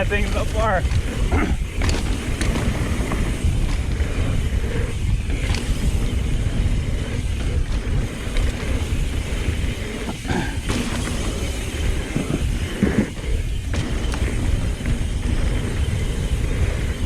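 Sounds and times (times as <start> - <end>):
bike clattering over bumps: 0.0 - 17.0
tyres rumbling over dirt: 0.0 - 17.0
wind buffeting microphone: 0.0 - 17.0.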